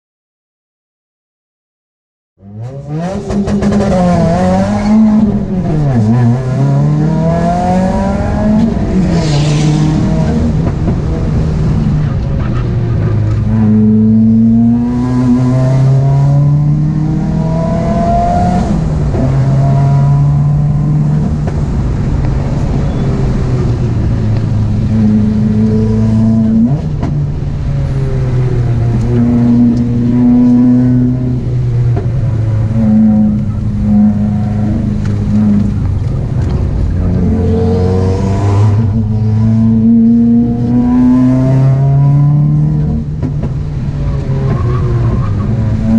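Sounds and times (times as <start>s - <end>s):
car engine accelerating and shifting: 2.4s - 45.9s.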